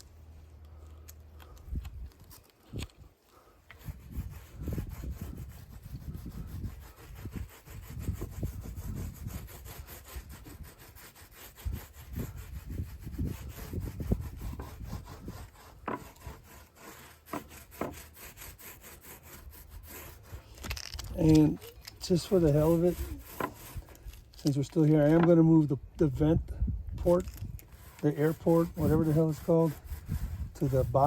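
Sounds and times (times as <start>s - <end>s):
sharp scrapes: 0.7s - 25.8s, 27.0s - 31.0s
rubbing on wooden drum shell: 3.8s - 25.8s, 27.0s - 31.0s.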